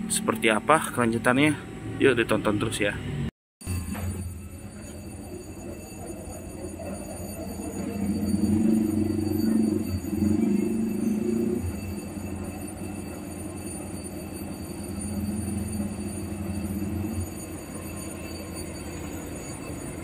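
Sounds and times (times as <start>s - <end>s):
locomotive humming: 0.0s - 20.0s.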